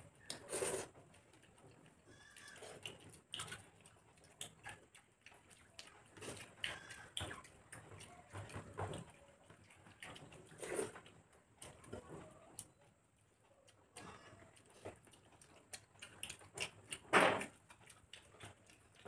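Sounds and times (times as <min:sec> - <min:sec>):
fingers squishing soft food: 0:00.0 - 0:19.0
mouth smacks and chewing: 0:00.0 - 0:19.0.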